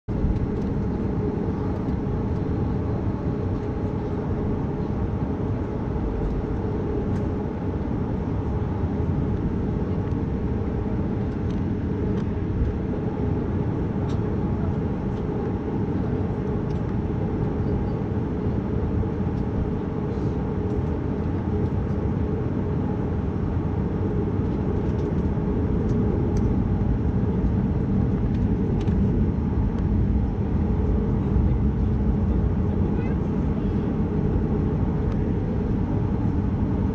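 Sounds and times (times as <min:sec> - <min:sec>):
airplane cabin rumble: 0:00.1 - 0:36.9.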